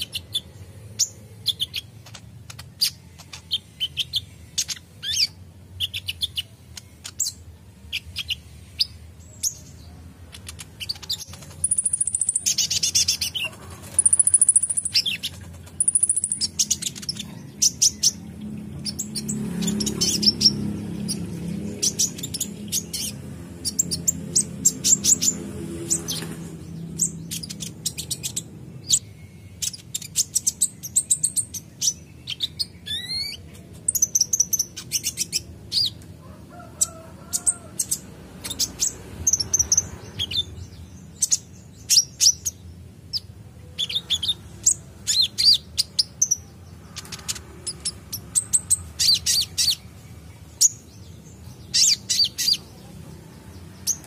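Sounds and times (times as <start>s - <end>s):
bird chirping and twittering: 0.0s - 54.0s.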